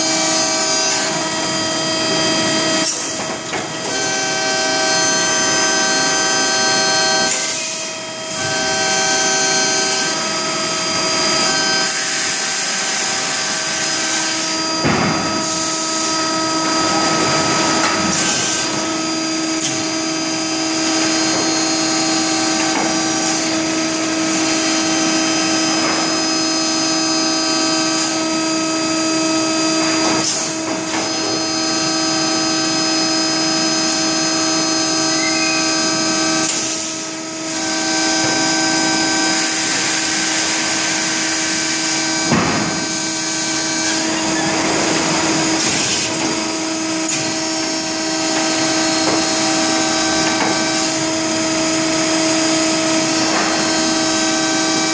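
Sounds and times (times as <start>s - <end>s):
hydraulic machine hum: 0.0s - 54.9s.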